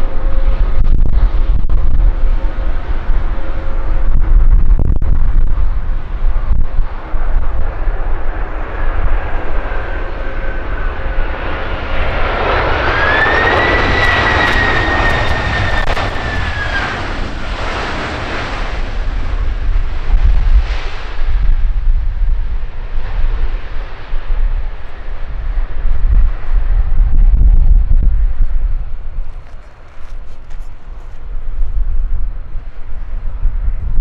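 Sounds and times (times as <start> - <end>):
rising engine whine: 0.0 - 33.9
constant low rumble: 0.0 - 34.0
jet turbofans on landing roll: 0.0 - 34.0.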